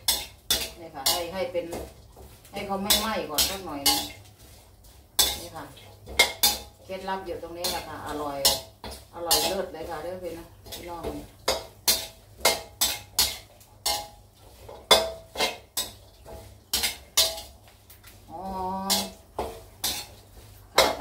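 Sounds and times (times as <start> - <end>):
metal spatula scraping wok: 0.0 - 21.0.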